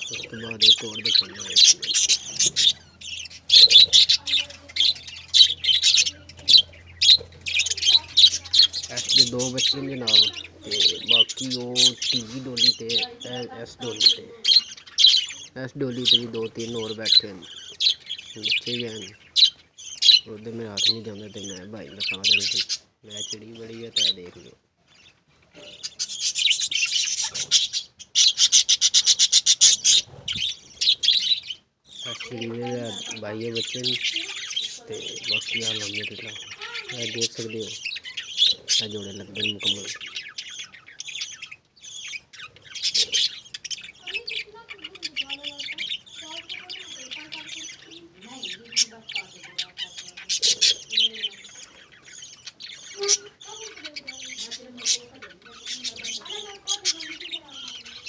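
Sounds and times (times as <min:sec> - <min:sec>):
budgerigars chirping: 0:00.0 - 0:58.0.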